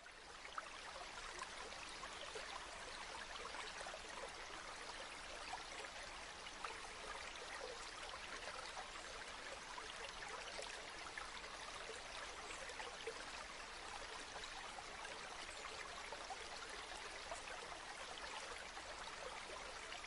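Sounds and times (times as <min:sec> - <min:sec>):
river water babbling: 0:00.0 - 0:20.0.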